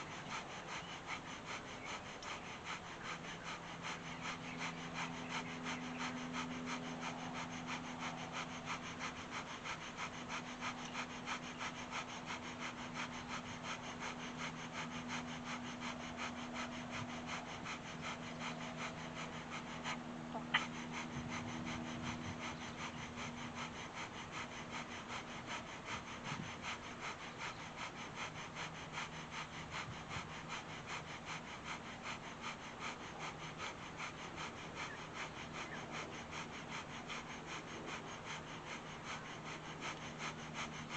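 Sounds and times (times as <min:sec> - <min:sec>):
faint low hum: 0:00.0 - 0:40.9
rapid rhythmic breathing: 0:00.0 - 0:40.9.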